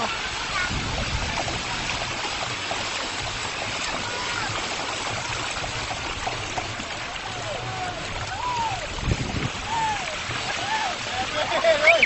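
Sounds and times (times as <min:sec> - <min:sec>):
seawater rushing and sloshing: 0:00.0 - 0:12.0.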